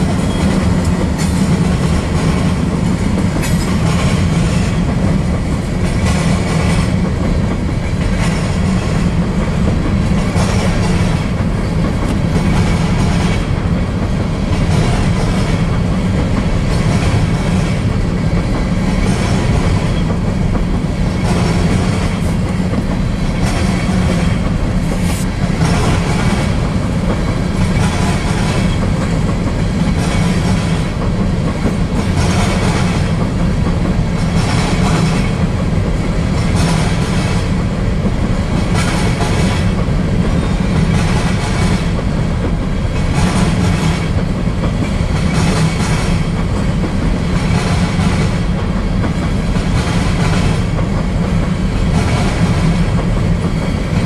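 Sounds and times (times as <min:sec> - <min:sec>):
freight train wheels rumbling: 0:00.0 - 0:54.0
wheels clacking over rail joints: 0:00.0 - 0:54.0.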